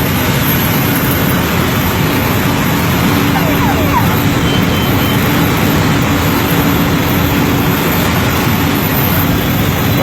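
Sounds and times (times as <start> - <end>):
propeller plane engine running: 0.0 - 10.0.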